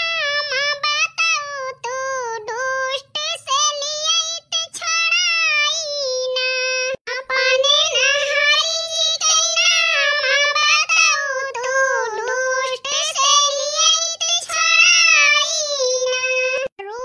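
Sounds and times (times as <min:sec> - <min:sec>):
high-pitched voice singing: 0:00.0 - 0:17.0.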